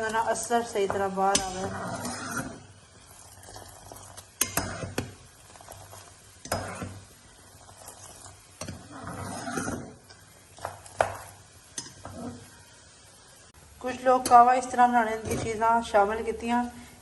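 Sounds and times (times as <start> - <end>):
spoon scraping pot: 0.0 - 12.6, 14.2 - 15.8
pot simmering: 0.0 - 17.0.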